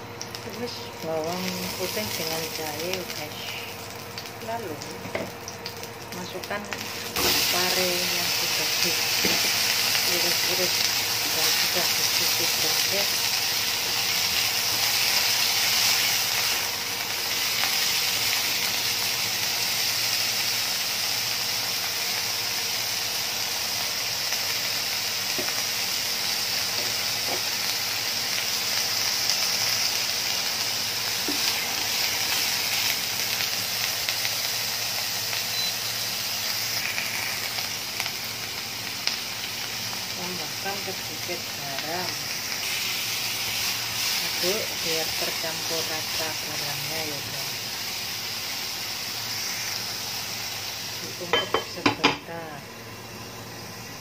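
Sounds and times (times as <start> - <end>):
vegetables sizzling in hot oil: 0.0 - 54.0.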